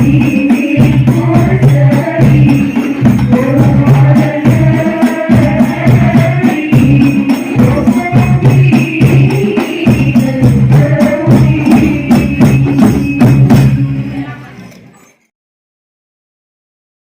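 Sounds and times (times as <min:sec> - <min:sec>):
frame drums fast rhythm: 0:00.0 - 0:14.5
voices singing: 0:00.0 - 0:14.5.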